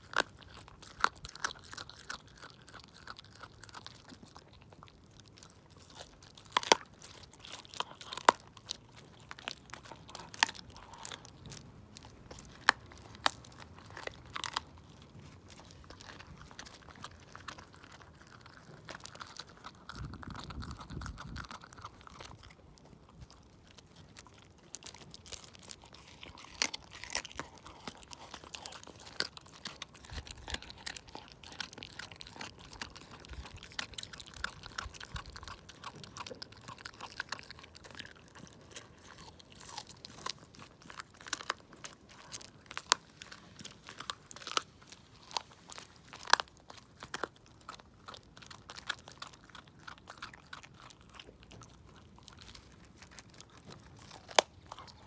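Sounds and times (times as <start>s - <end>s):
dog crunching bones: 0.0s - 55.0s
wet chewing: 0.0s - 55.0s.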